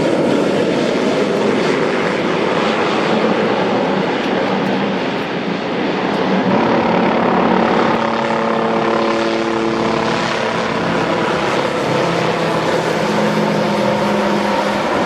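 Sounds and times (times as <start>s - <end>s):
aircraft engine droning: 0.0s - 15.0s.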